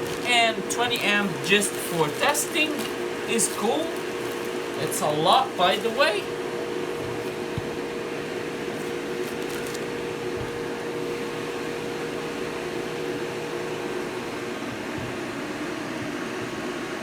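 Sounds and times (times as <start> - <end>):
welding machine cooling fan whirring: 0.0 - 17.0.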